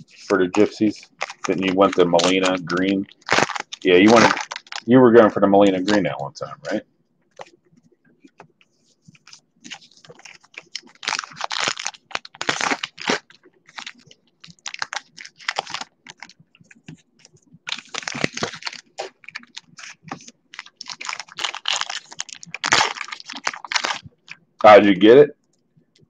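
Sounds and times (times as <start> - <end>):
foil wrapper crinkling and tearing: 0.0 - 5.0, 5.6 - 6.1, 9.2 - 24.9.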